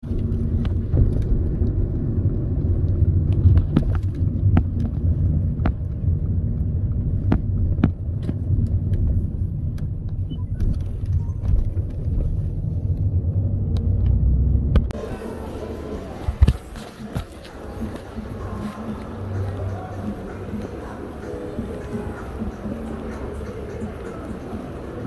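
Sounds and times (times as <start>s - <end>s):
low steady rumble: 0.0s - 23.4s.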